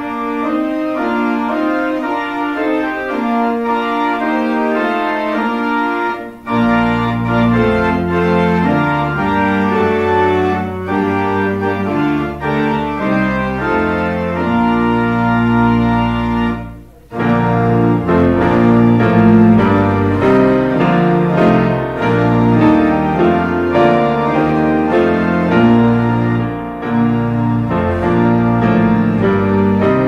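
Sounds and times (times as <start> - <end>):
church organ playing chords: 0.0 - 30.0.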